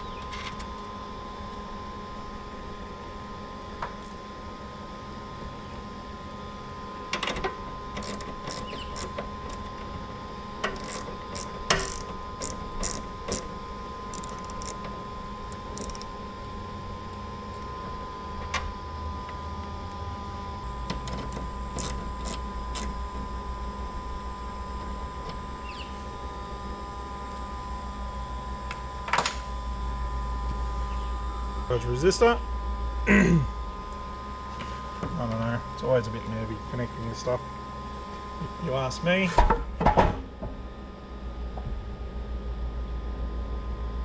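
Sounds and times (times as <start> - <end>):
steady high hum: 0.0 - 44.0.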